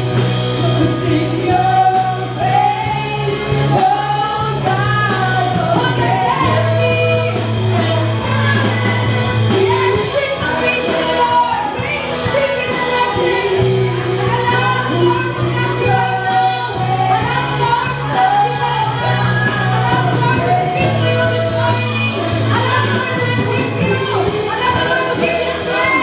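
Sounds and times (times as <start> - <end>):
drums: 0.0 - 26.0
electric bass line: 0.0 - 26.0
keyboard: 0.0 - 26.0
women singing together: 0.6 - 26.0.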